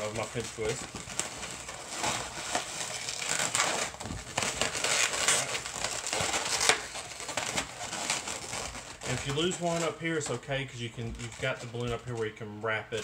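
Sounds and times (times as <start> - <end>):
balloon crackles: 0.0 - 13.0
balloons rubbing and scraping: 0.0 - 13.0.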